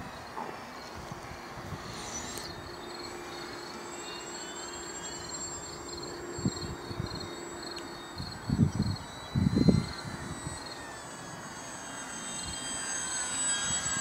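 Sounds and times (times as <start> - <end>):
insects chirping: 0.0 - 14.0
model plane motor drone: 0.0 - 14.0.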